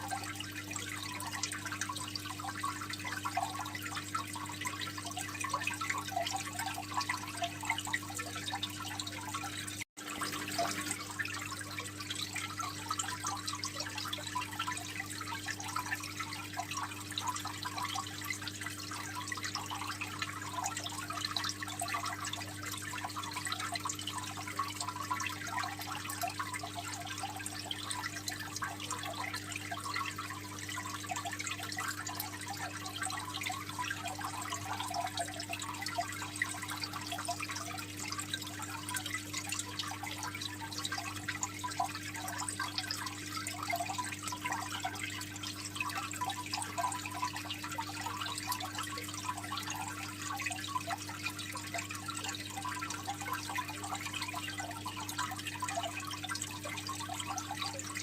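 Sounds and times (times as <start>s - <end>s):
aquarium water trickling: 0.0s - 58.0s.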